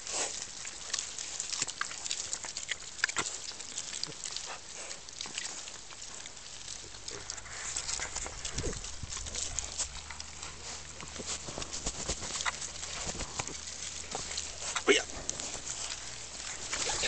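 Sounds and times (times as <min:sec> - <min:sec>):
piglets chewing and snuffling: 0:00.0 - 0:17.0.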